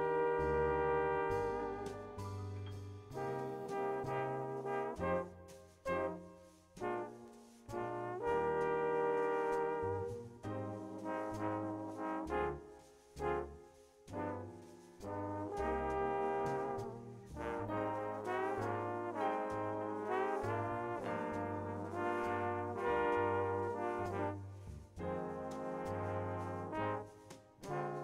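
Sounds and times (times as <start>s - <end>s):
double bass line: 0.0s - 28.0s
trombones playing jazz: 0.0s - 28.0s.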